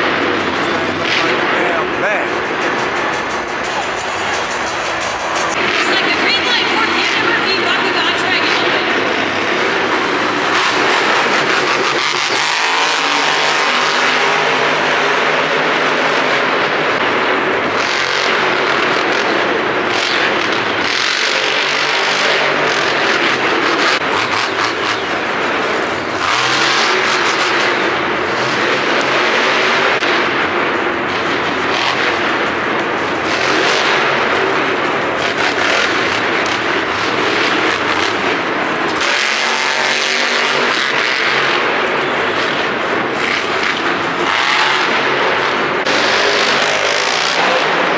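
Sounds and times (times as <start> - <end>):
monster truck engines revving: 0.0 - 47.9.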